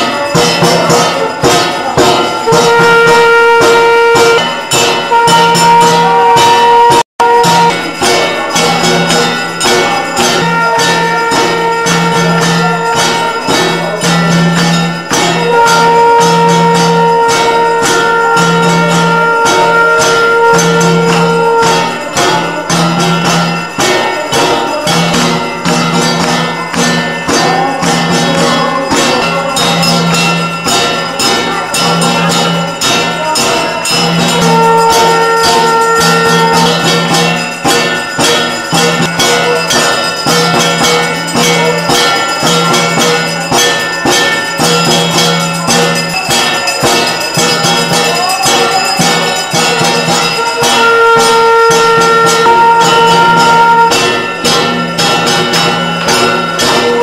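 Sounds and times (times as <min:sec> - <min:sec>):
bells ringing: 0:00.0 - 0:57.0
jingling percussion rhythm: 0:00.0 - 0:57.0.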